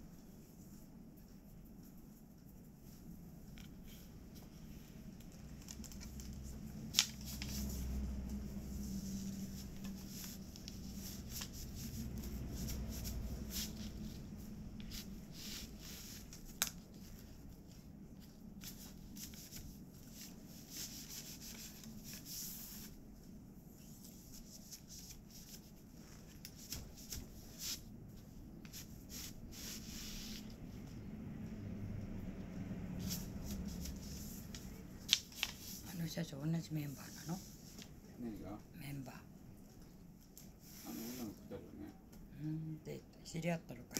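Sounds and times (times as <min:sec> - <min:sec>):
threads rubbing and rustling: 0:00.2 - 0:30.9, 0:33.0 - 0:38.0.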